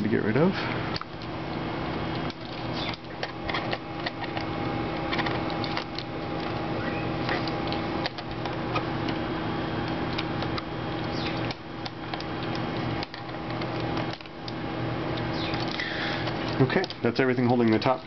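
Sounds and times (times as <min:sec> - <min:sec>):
steady hum with tones: 0:00.0 - 0:18.0.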